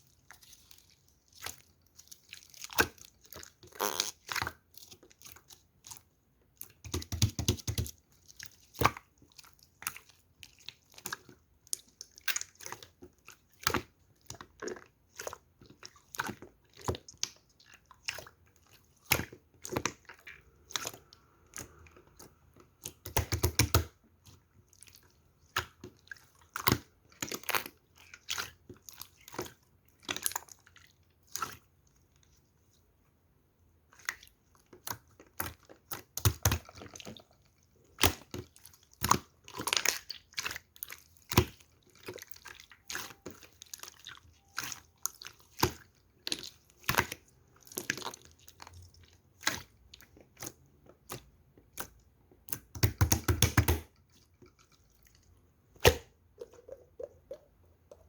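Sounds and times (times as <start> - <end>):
soft material squished with pops: 0.0 - 33.2, 33.8 - 58.0.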